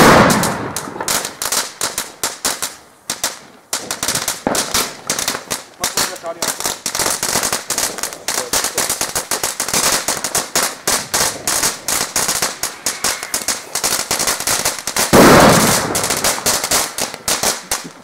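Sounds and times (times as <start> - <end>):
firecrackers crackling: 0.0 - 18.0.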